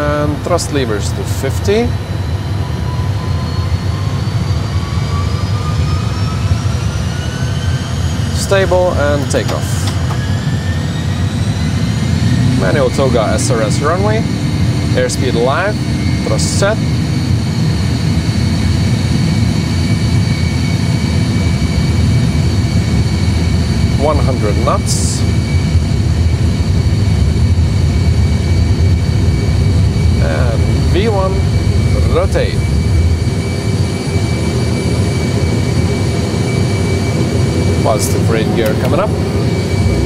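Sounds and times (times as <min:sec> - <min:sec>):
jet engines spooling up: 0:00.0 - 0:40.0.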